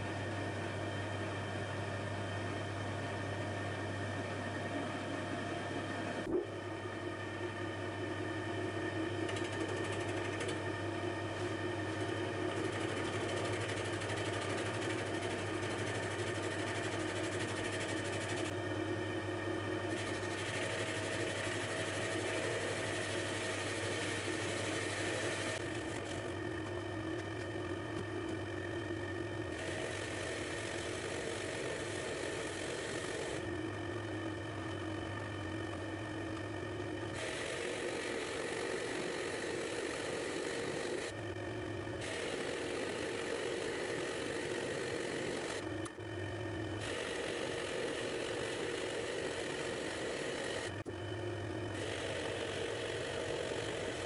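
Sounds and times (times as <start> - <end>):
metal lathe running: 3.1 - 54.0.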